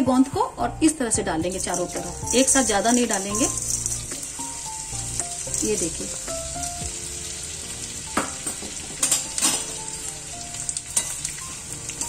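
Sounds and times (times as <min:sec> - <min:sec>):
frying in hot oil sizzling: 0:00.9 - 0:12.0.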